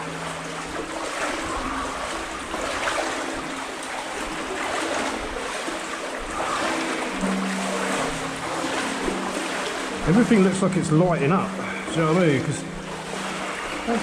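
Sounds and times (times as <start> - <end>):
legs wading through water: 0.0 - 14.0.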